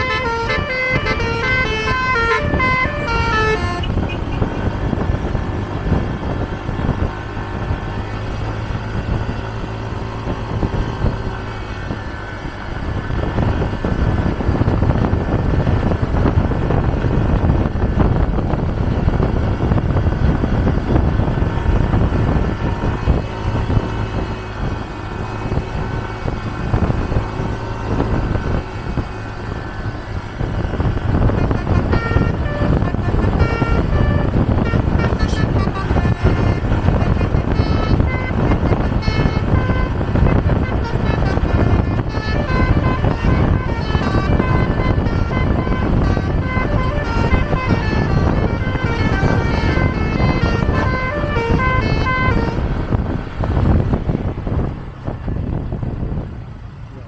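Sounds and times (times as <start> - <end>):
musical bus horn: 0.0 - 54.6
road and wind rumble: 0.0 - 57.0.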